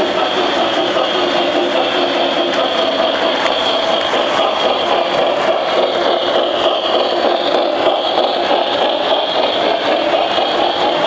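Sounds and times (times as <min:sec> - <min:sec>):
model train wheels rattling on track: 0:00.0 - 0:11.0.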